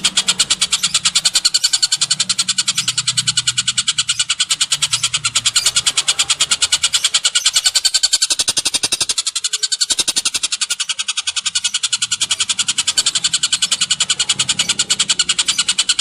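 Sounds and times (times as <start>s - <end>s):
bird rattling trill: 0.0s - 16.0s.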